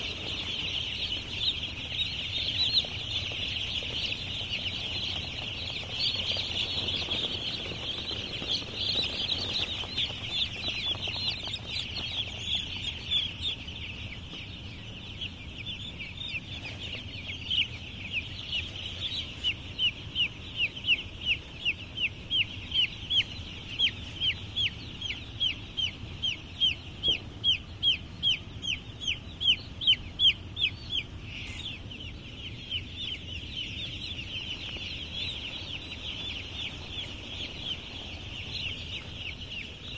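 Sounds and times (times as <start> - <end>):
chick loud falling peeps: 0.0 - 39.9
flock of chicks peeping: 0.0 - 39.9.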